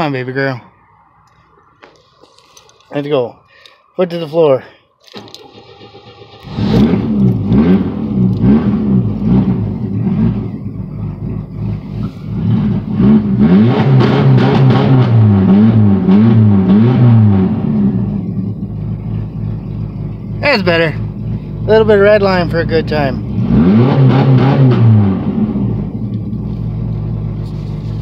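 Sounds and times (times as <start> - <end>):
car engine cranking: 5.0 - 28.0
car engine running rough: 5.2 - 28.0.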